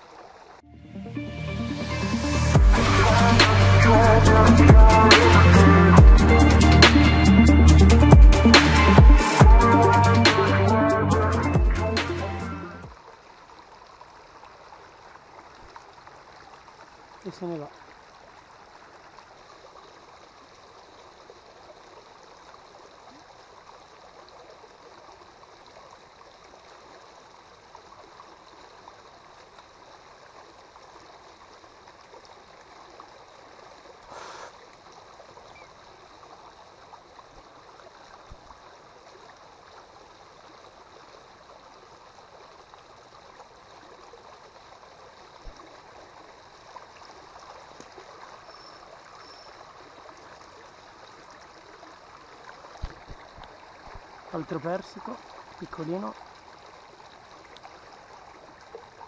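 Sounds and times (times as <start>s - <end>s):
water rushing along a channel: 0.0s - 0.6s, 2.5s - 10.7s, 12.8s - 59.0s.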